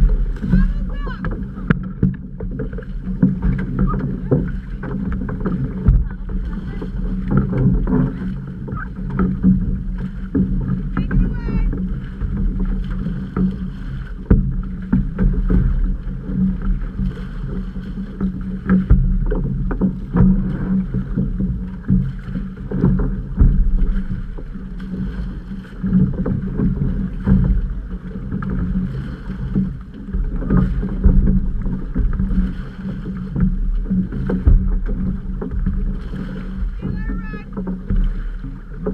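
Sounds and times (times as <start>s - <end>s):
paddle splashes and knocks: 0.0s - 38.9s
steady low hum: 0.0s - 38.9s
water rushing past hull: 0.0s - 38.9s.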